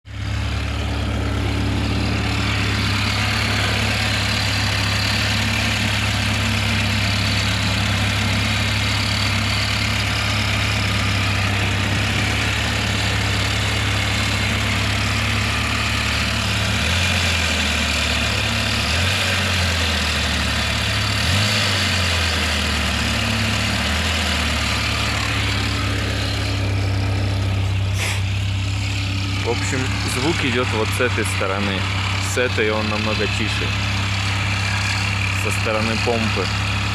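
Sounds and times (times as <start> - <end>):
car engine idling with knock: 0.0 - 36.9.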